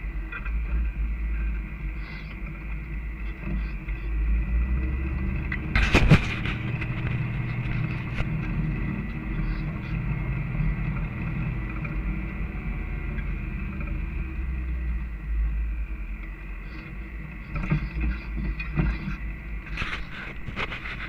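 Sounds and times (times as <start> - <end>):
knocks and rattles over bumps: 0.0 - 21.0
off-road vehicle engine drone: 0.0 - 21.0.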